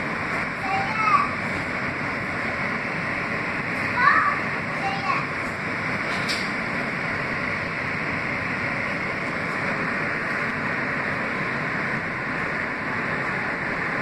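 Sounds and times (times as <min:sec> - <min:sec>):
subway car running on track: 0:00.0 - 0:14.0.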